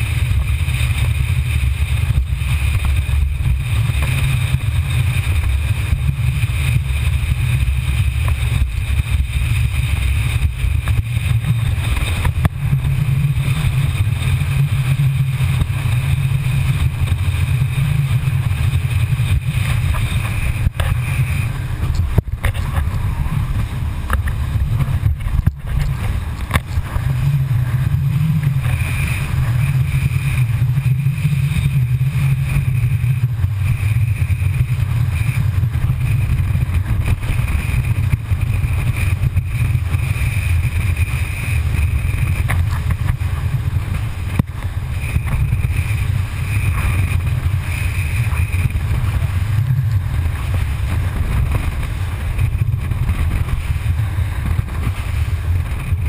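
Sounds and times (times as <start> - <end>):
boat and water rumble: 0.0 - 56.0.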